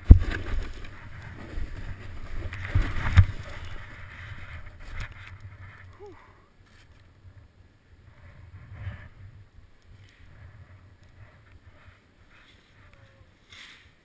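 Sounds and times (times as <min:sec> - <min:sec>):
ski edges scraping snow: 0:00.0 - 0:05.9, 0:08.2 - 0:14.0
wind rumble on microphone: 0:00.0 - 0:06.2, 0:07.0 - 0:13.4.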